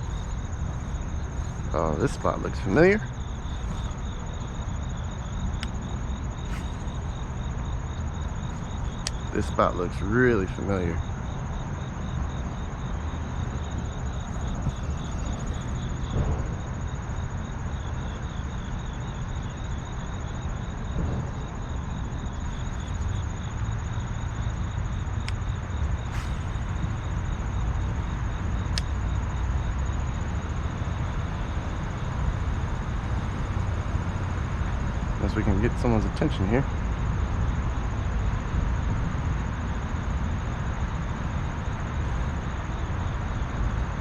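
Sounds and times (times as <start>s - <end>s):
insects trilling: 0.0s - 44.0s
low outdoor rumble: 0.0s - 44.0s.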